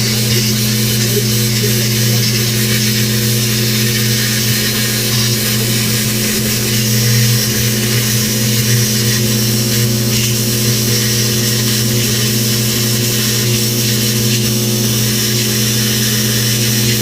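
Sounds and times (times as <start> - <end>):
low electrical buzz: 0.0 - 17.0
plasma cutter hissing: 0.0 - 17.0.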